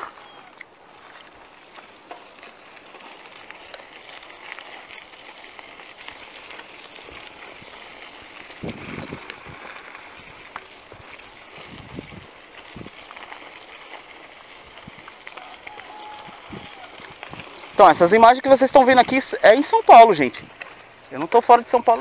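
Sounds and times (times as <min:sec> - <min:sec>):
bicycle tyres crunching gravel: 0:00.0 - 0:22.0.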